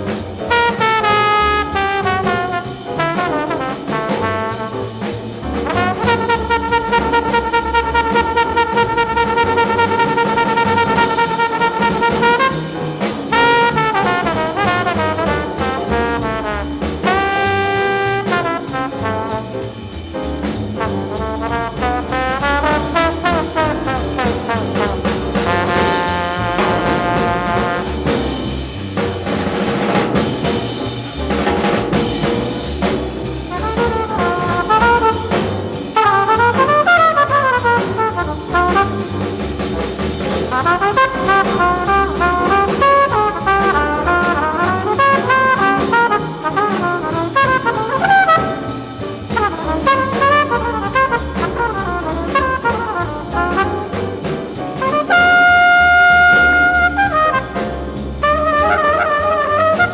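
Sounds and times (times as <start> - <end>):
drum kit: 0.0 - 59.9
jazz horn solo: 0.0 - 59.9
piano: 0.0 - 59.9
walking bass: 0.0 - 59.9.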